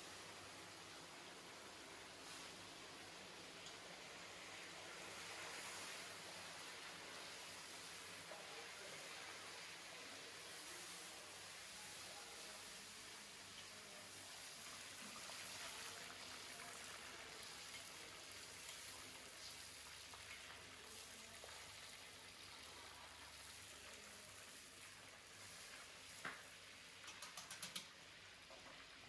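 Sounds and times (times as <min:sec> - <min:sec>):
meat deep-frying in oil: 0:00.0 - 0:29.0.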